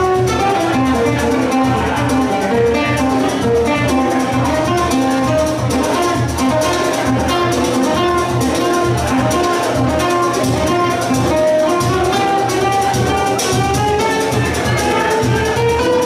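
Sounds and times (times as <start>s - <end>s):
strummed acoustic guitars: 0.0s - 16.0s
violin melody: 0.0s - 16.0s.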